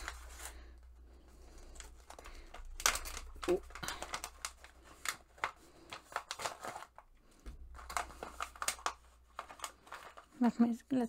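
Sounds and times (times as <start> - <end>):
paper and plastic packaging rustling: 0.0 - 11.0.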